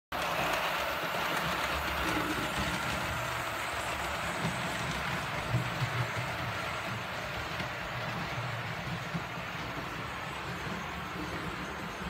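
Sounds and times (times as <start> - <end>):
model train motors whirring: 0.2 - 12.0
wheels clicking over rail joints: 0.2 - 12.0.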